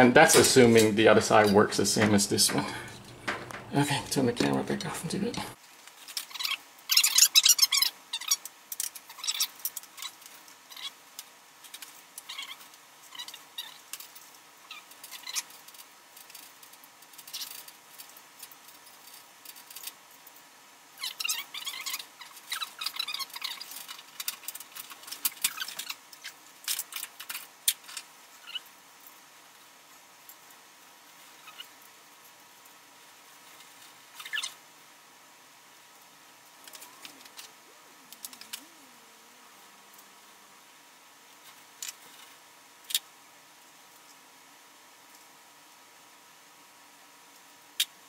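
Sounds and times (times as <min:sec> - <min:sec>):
scratchy clicks and rustles of wires: 0:00.0 - 0:34.6, 0:36.0 - 0:38.8, 0:41.4 - 0:43.1.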